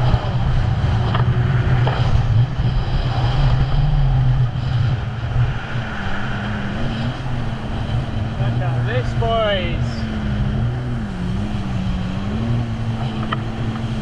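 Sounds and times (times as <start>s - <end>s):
jet ski engine running: 0.0s - 14.0s
wind on microphone: 0.0s - 14.0s.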